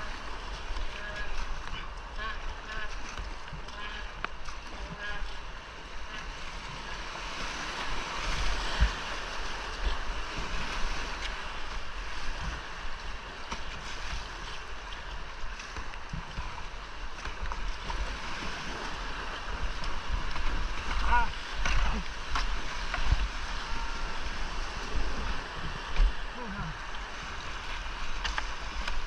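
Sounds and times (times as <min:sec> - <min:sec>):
whitewater rushing: 0:00.0 - 0:29.0.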